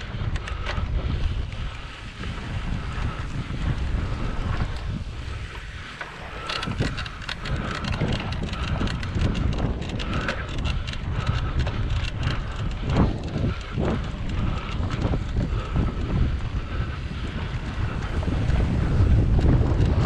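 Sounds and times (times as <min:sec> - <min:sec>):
bike rattling and knocking: 0:00.0 - 0:20.0
steady low rumble: 0:00.0 - 0:20.0
wind buffeting microphone: 0:00.0 - 0:20.0.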